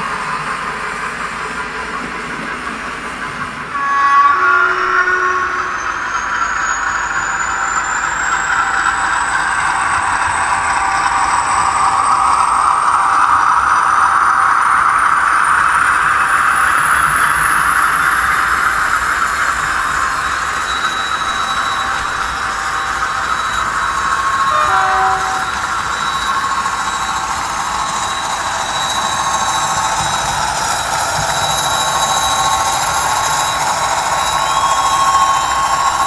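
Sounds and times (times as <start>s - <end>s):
model train running noise: 0.0s - 36.0s
thin high whine: 3.7s - 36.0s.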